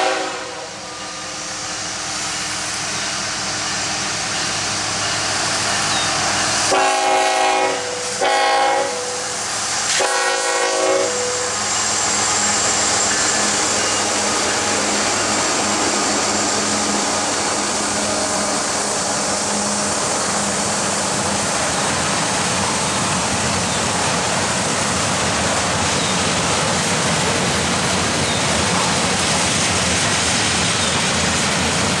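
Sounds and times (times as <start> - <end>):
locomotive engine drone: 0.0 - 32.0
steel wheels rumbling on rail: 0.0 - 32.0.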